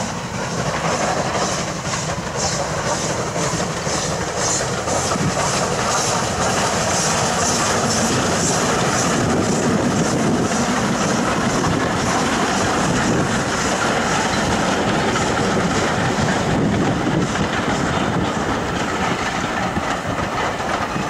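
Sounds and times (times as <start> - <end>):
coaches rolling on rails: 0.0 - 21.0
steam locomotives passing: 0.0 - 21.0.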